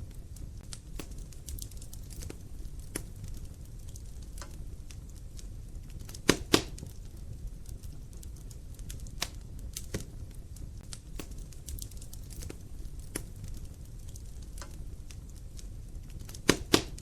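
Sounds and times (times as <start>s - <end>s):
fire crackling and popping: 0.0s - 17.0s
flames rumbling: 0.0s - 17.0s.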